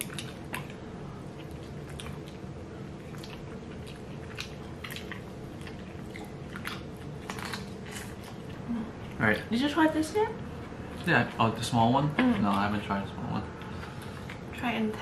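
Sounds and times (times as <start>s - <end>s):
people chewing food: 0.0s - 9.6s, 10.4s - 14.7s.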